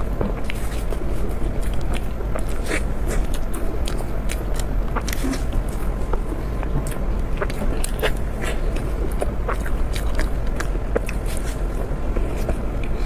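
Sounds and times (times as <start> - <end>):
chewing food crackles: 0.0 - 13.0
low steady hum: 0.0 - 13.0.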